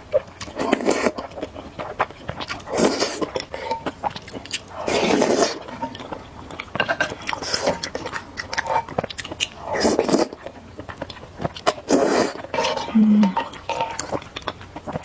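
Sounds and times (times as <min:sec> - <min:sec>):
wet chewing: 0:00.0 - 0:15.0
noodles being slurped: 0:00.4 - 0:06.2, 0:07.2 - 0:10.6, 0:11.5 - 0:15.0.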